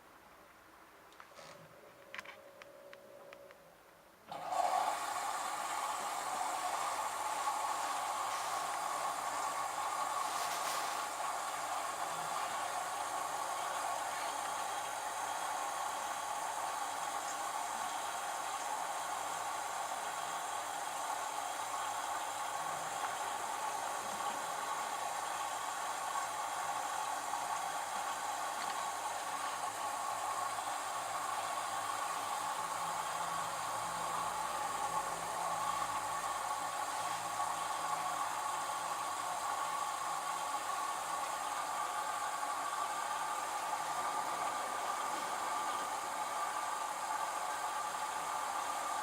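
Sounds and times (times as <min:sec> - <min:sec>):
washing machine hissing: 0:04.3 - 0:49.0.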